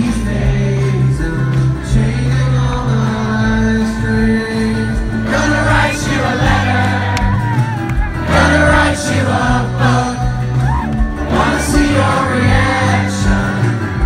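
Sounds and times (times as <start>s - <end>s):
man singing: 0.0s - 7.2s, 8.2s - 14.0s
rock band playing: 0.0s - 14.0s.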